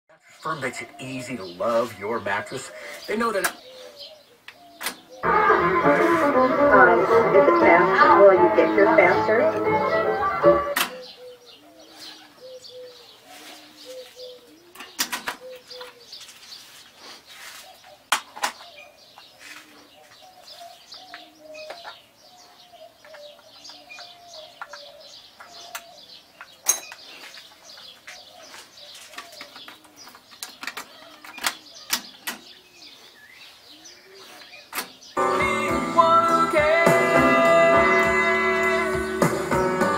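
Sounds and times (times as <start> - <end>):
birds chirping: 0.1 - 39.9
birds cooing: 0.3 - 5.5, 7.2 - 35.2.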